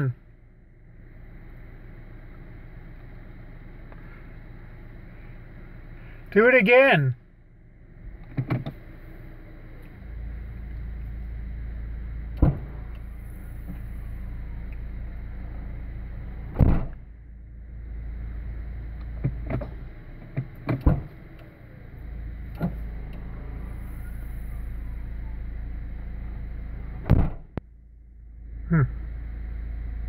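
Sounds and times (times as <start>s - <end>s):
car engine idling hum: 0.0s - 30.0s.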